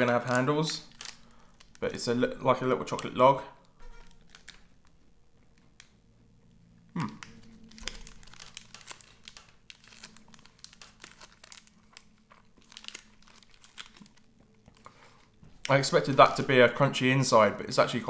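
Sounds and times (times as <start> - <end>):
plastic wrapper crinkling: 0.0 - 6.0, 6.8 - 16.9.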